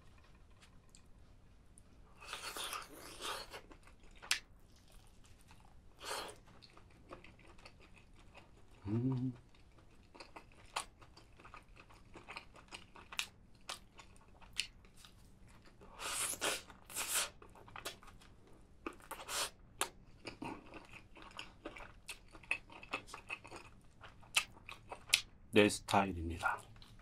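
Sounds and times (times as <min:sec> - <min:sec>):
chewing with wet mouth clicks: 0:00.0 - 0:01.1, 0:02.2 - 0:15.8, 0:16.6 - 0:25.3.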